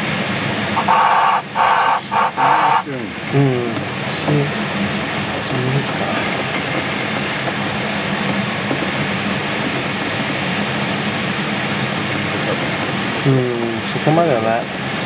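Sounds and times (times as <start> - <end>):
airflow rushing over glider: 0.0 - 15.0.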